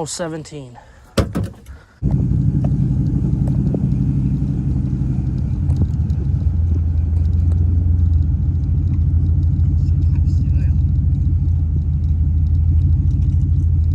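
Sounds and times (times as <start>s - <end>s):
vehicle engine and road rumble: 0.0s - 13.9s.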